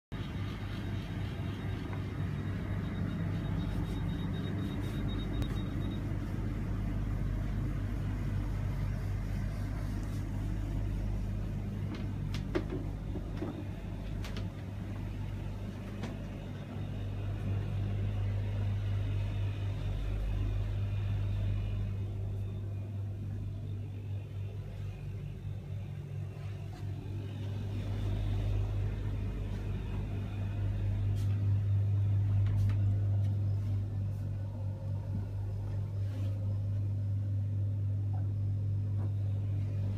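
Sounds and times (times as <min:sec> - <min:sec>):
low mechanical hum of machinery: 0:00.1 - 0:39.9.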